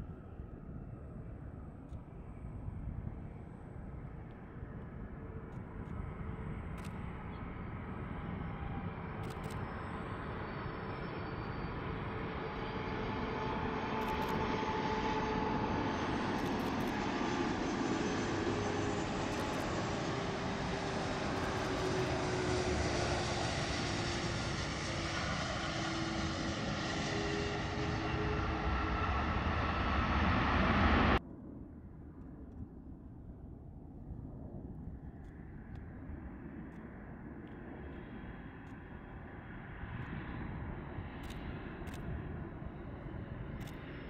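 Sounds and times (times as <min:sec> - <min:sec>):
aircraft engines passing: 0:02.3 - 0:31.6, 0:36.0 - 0:44.0.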